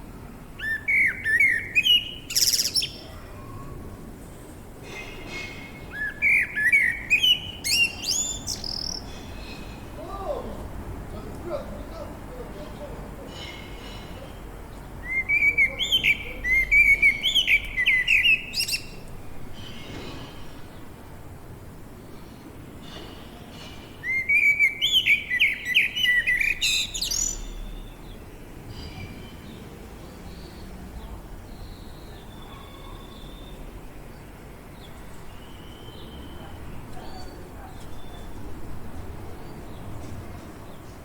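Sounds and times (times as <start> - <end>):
songbird chirping: 0.0 - 41.0
birds singing whistled notes: 0.4 - 3.8, 4.8 - 10.1, 12.6 - 20.9, 22.0 - 38.5.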